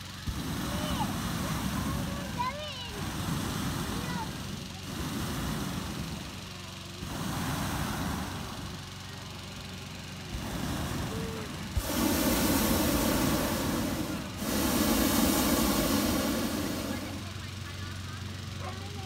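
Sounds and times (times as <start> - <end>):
low background rumble: 0.0 - 19.0
propane burner roaring: 0.0 - 19.0.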